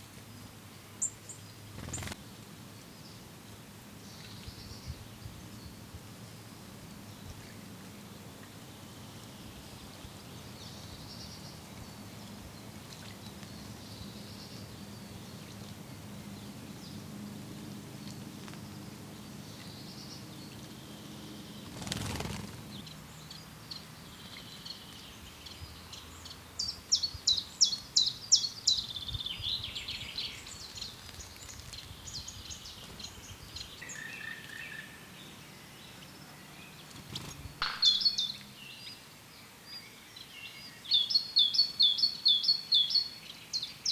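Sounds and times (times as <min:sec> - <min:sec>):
songbirds calling and singing: 0:01.0 - 0:43.9.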